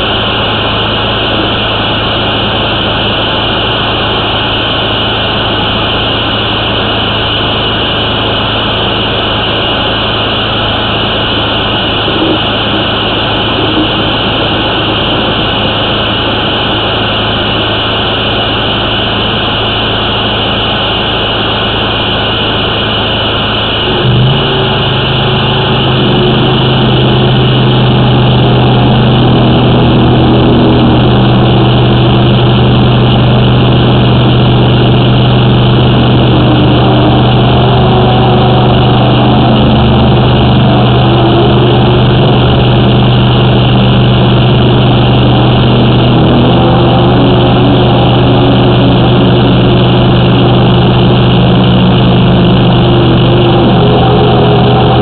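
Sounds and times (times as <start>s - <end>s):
drain jetter engine humming: 0.0s - 55.0s
water jet in pipe: 0.0s - 55.0s.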